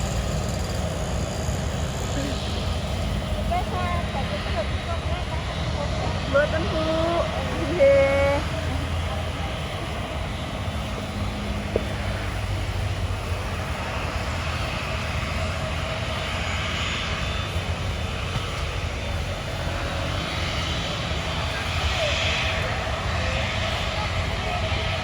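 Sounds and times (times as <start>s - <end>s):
airliner engines rushing: 0.0s - 25.0s.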